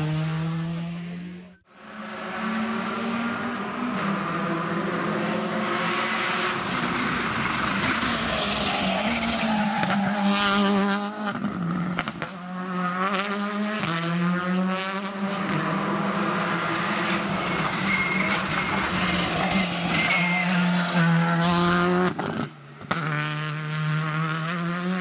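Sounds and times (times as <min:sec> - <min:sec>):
rally car engine revving past: 0:00.0 - 0:25.0.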